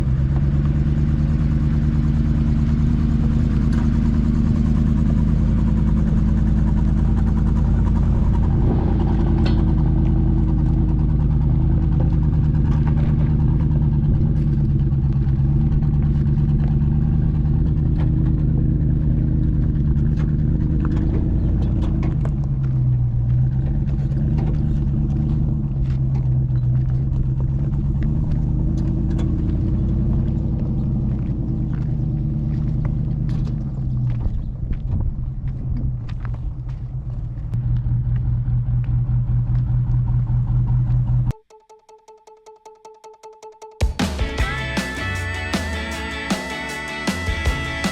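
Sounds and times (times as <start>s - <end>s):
engine running while driving: 0.0s - 41.4s, 44.0s - 47.9s.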